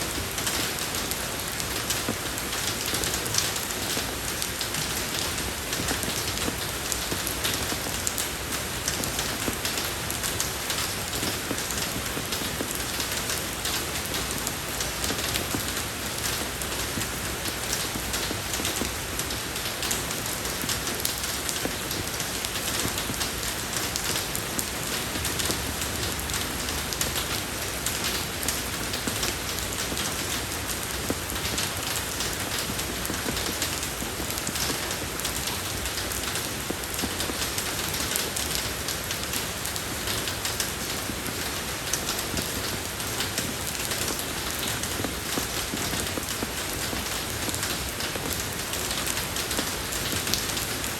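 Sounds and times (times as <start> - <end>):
rain falling on a road: 0.0 - 50.9.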